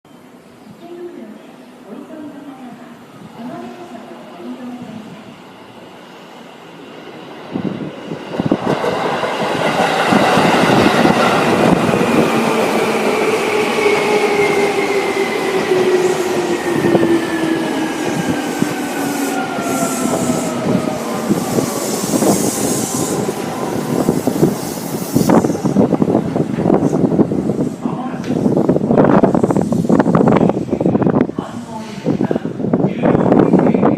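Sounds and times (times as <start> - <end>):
railway platform background noise: 0.1 - 33.9.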